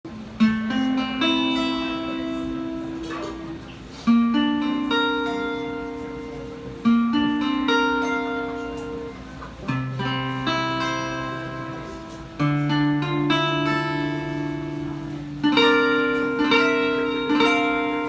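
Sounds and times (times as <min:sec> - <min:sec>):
guitar plucked notes: 0:00.1 - 0:18.0.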